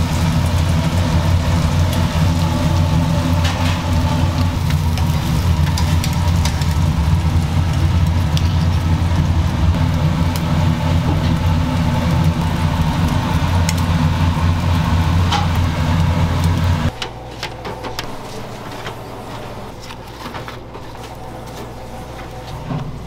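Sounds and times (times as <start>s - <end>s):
kitchen machinery motor hum: 0.0s - 23.0s.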